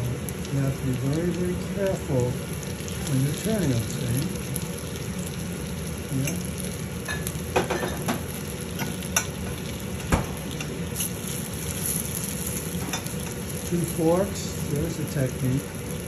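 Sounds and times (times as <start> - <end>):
croquettes sizzling in oil: 0.0 - 16.0.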